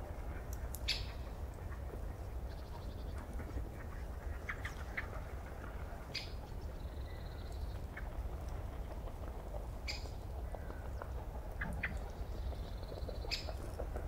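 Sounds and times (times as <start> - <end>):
birds calling: 0.8 - 9.1, 9.8 - 14.0.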